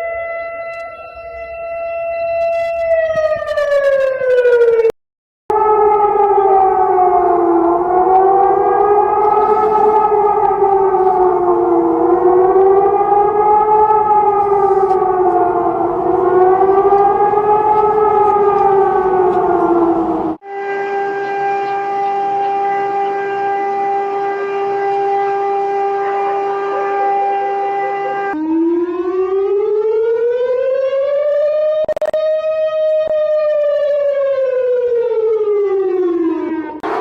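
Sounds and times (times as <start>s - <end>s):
siren wailing up and down: 0.0s - 4.9s, 5.5s - 37.0s
steady siren winding down: 0.0s - 4.9s, 5.5s - 37.0s.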